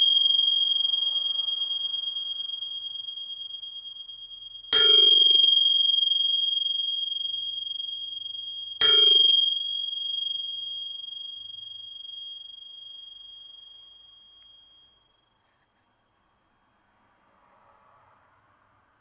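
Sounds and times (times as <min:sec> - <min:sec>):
tingsha cymbals ringing: 0:00.0 - 0:15.4.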